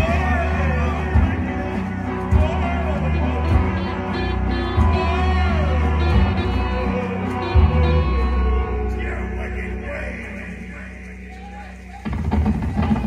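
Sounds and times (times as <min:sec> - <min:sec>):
live rock band music: 0:00.0 - 0:13.0.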